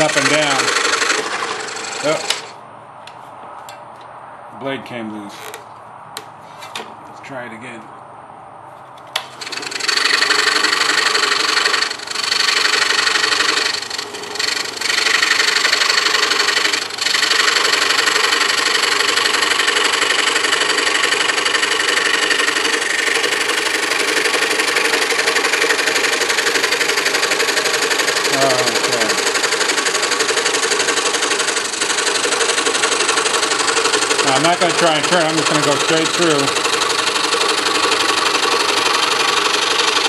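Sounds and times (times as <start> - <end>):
scroll saw cutting boards: 0.0 - 2.6, 9.2 - 40.0.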